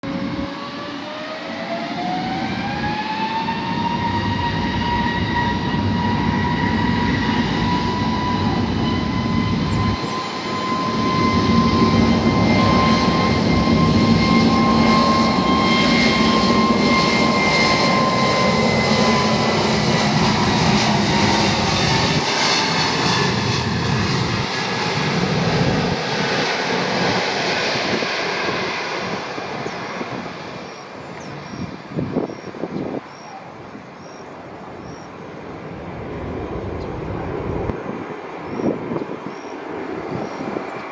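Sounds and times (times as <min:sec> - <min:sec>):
jet engines taking off: 0:00.0 - 0:40.9.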